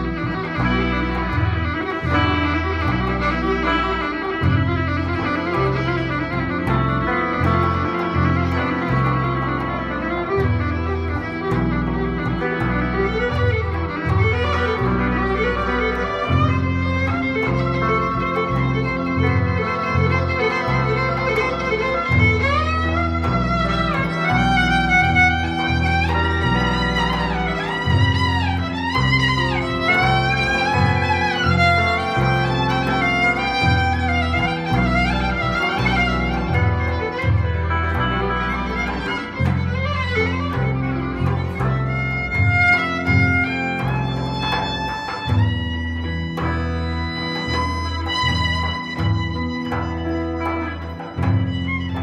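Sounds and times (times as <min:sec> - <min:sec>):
guitar accompaniment: 0:00.0 - 0:52.0
violin melody with vibrato: 0:00.0 - 0:52.0.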